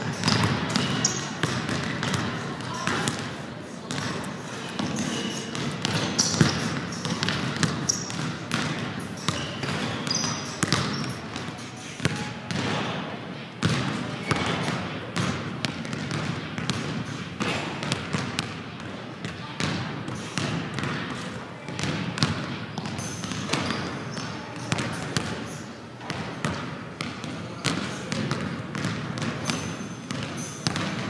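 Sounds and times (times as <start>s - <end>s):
basketballs bouncing on hardwood: 0.0s - 3.3s, 3.9s - 4.2s, 4.8s - 13.0s, 13.6s - 19.0s, 19.6s - 21.1s, 21.7s - 25.3s, 26.0s - 31.0s.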